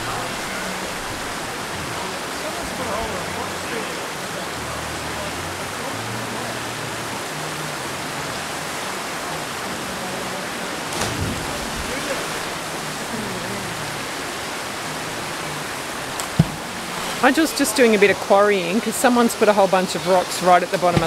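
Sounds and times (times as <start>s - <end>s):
creek water rushing over rock: 0.0s - 21.0s.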